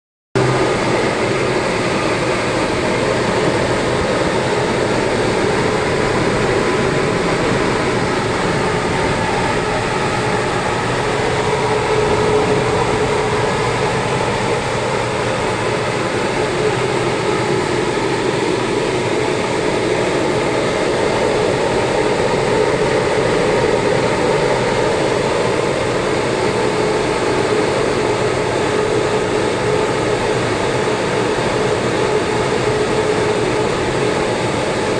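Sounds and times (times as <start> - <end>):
loud steady machine noise: 0.4 - 34.9.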